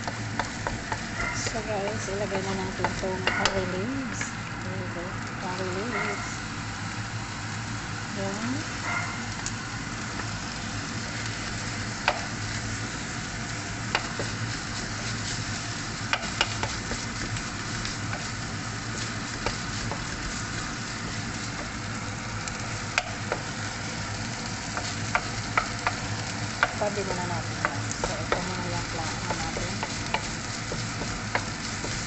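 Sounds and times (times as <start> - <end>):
hot oil sizzling in a pan: 0.0 - 32.0.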